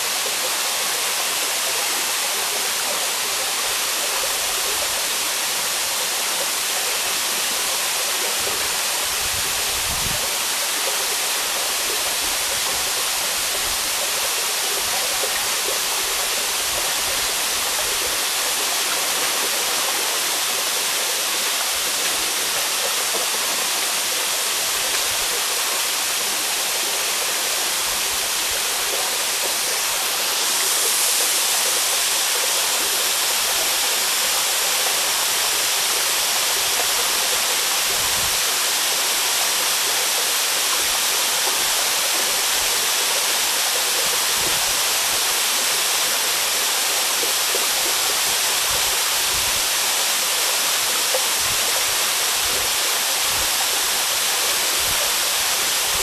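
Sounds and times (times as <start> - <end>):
waterfall rushing hiss: 0.0 - 56.0.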